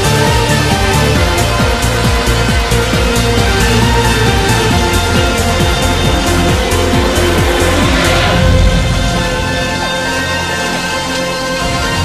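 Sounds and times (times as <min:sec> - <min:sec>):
background music with sustained notes: 0:00.0 - 0:12.0
steady low bass: 0:00.0 - 0:12.0.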